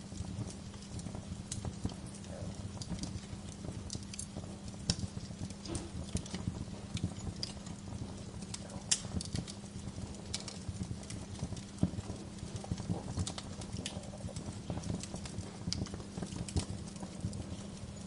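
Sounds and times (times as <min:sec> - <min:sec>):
crackles and pops of burning logs: 0:00.0 - 0:18.0
low rumble of flames: 0:00.0 - 0:18.0.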